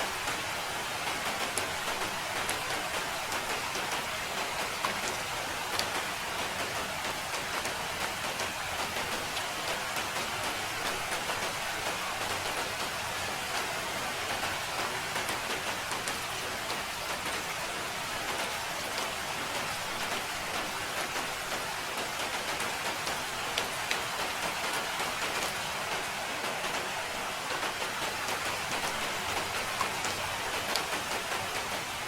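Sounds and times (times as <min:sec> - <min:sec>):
steady rain hiss: 0:00.0 - 0:32.0
rain drop ticks: 0:00.2 - 0:13.7, 0:14.3 - 0:26.9, 0:27.5 - 0:32.0.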